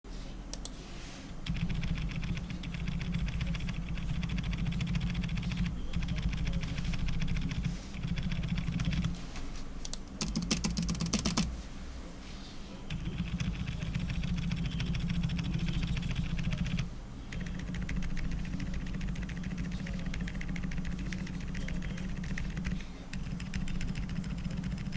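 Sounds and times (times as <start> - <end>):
fast mechanical keyboard typing: 1.5 - 9.2, 9.9 - 11.6, 12.9 - 24.9.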